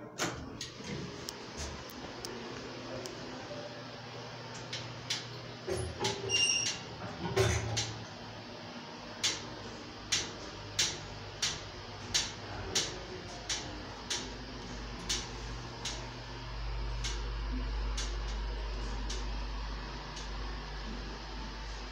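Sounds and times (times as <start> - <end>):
elevator hum: 0.0 - 21.9.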